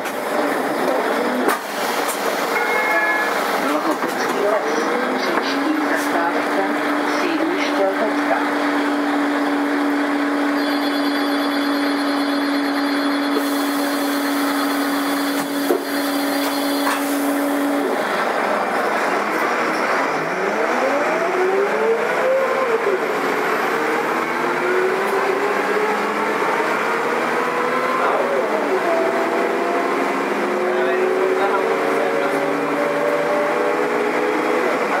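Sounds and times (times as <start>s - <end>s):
bus engine whine: 0.0s - 35.0s.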